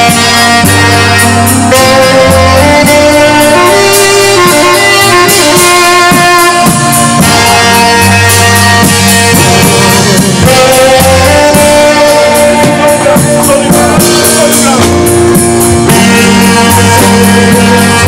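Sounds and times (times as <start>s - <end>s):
bass line: 0.0s - 18.0s
drum kit cymbal beat: 0.0s - 18.0s
saxophone slow melody: 0.0s - 18.0s.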